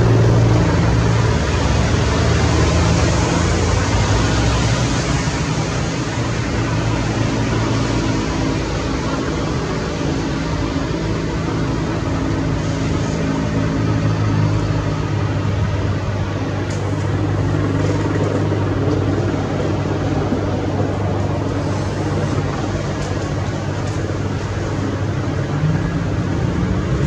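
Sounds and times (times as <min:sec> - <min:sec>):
helicopter engines and rotor running: 0:00.0 - 0:27.0
low hum: 0:00.0 - 0:27.0.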